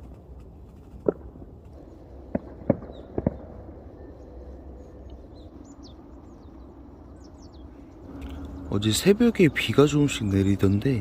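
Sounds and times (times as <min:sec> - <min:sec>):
faint steady background: 0:00.0 - 0:11.0
small birds chirping: 0:01.7 - 0:11.0.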